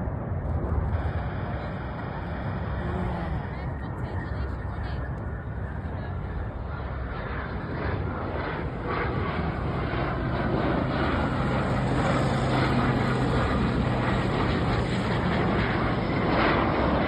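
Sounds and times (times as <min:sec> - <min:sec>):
jet engine rushing overhead: 0:00.0 - 0:17.0.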